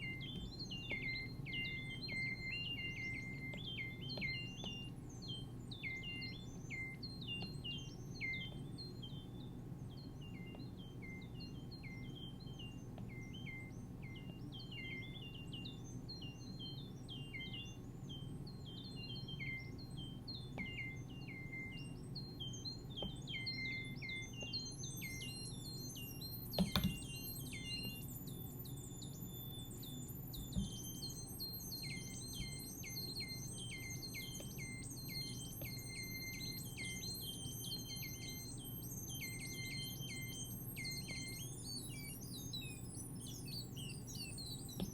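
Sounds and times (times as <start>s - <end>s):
synthesizer chirping blips: 0.0s - 44.9s.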